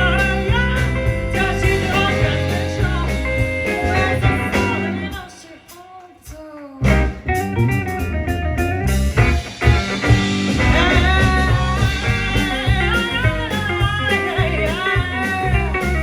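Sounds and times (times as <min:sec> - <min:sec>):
bass and beat: 0:00.0 - 0:05.3, 0:06.3 - 0:16.0
person singing: 0:00.0 - 0:07.3, 0:10.5 - 0:16.0
guitar: 0:00.0 - 0:16.0.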